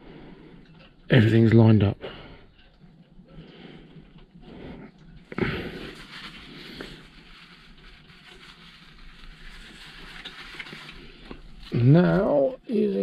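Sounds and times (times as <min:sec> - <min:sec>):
soft rustling: 0:00.0 - 0:13.0.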